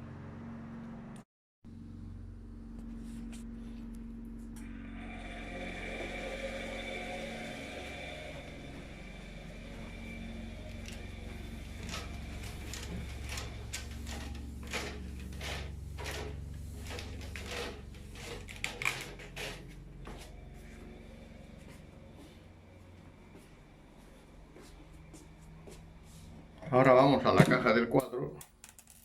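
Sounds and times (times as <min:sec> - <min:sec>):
washing machine hum: 0:00.0 - 0:28.7.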